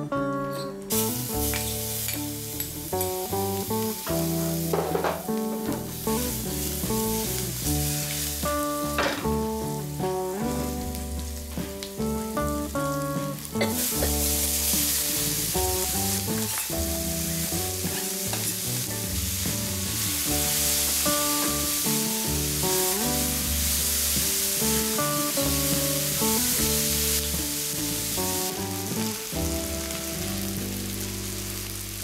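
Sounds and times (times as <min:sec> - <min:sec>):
background melody: 0:00.0 - 0:32.0
onions sizzling in oil: 0:00.9 - 0:32.0.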